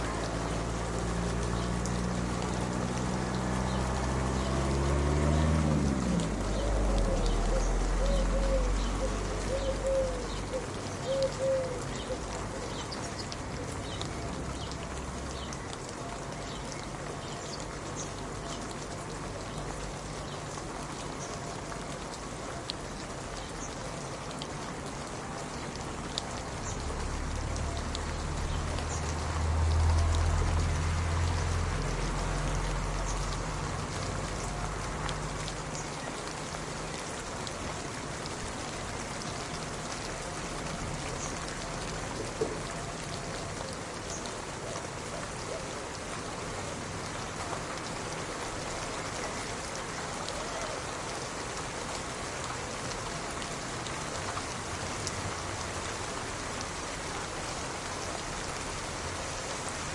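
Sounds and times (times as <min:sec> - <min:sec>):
rain hissing: 0:00.0 - 0:59.9
raindrops ticking on a surface: 0:00.0 - 0:59.9.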